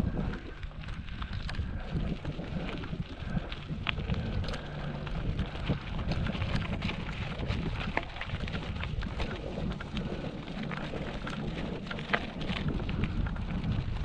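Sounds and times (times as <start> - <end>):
bicycle tyres crunching on gravel: 0.0 - 14.0
stones and bike rattling: 0.0 - 14.0
wind buffeting microphone: 0.0 - 14.0.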